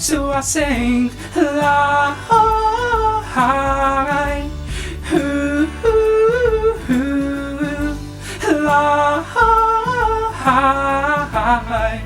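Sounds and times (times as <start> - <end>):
man singing la la refrain: 0.0 - 12.0.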